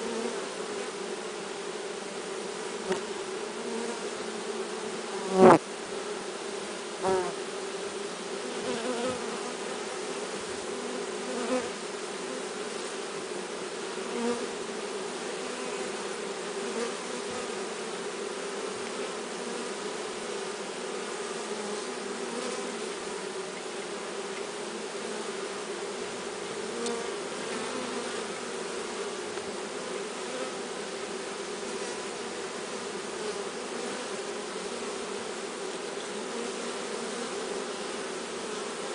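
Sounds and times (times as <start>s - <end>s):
honeybee swarm buzzing: 0.0s - 38.9s.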